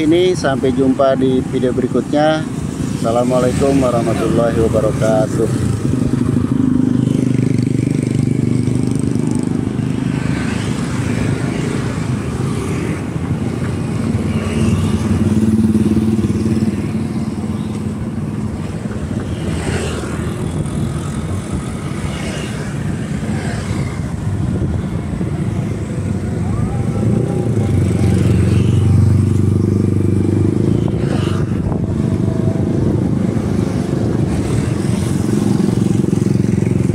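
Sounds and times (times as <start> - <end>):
street traffic noise: 0.0 - 36.9.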